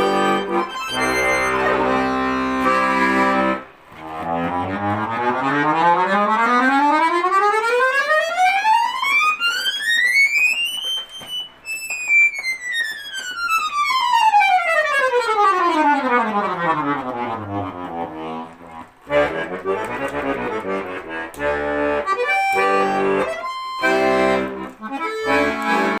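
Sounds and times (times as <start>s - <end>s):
button accordion playing: 0.0s - 26.0s.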